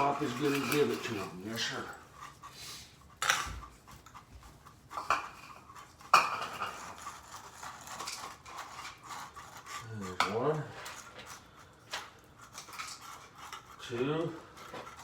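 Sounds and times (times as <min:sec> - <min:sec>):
pet food bowls clattering: 0:00.0 - 0:15.0.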